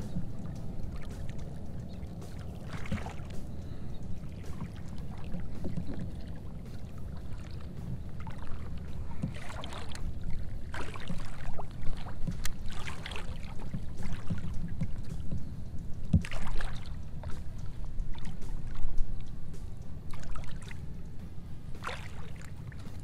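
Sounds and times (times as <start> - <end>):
steady low rumble: 0.0 - 23.0
water splashing and dripping: 0.0 - 23.0.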